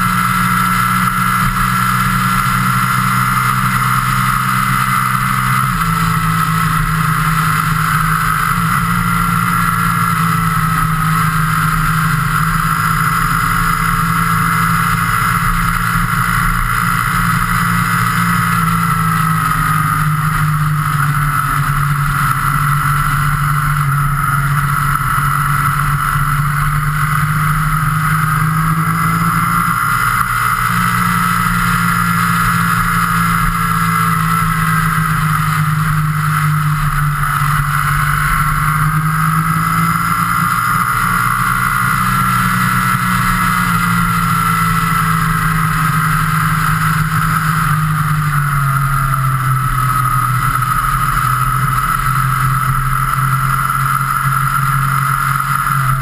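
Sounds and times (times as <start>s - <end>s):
road and wind noise: 0.0s - 56.0s
vehicle engine running: 0.0s - 56.0s.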